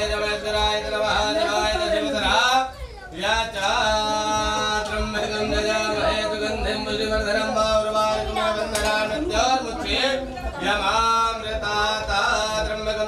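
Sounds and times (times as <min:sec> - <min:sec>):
man chanting mantras: 0:00.0 - 0:13.0.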